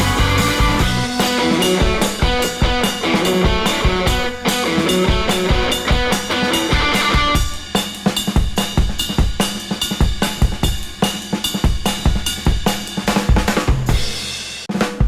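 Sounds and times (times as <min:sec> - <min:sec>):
background music with drum beat: 0:00.0 - 0:15.0.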